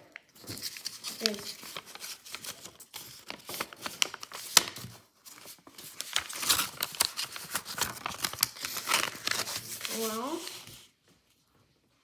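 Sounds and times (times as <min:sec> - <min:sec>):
paper rustling and folding: 0:00.3 - 0:11.6.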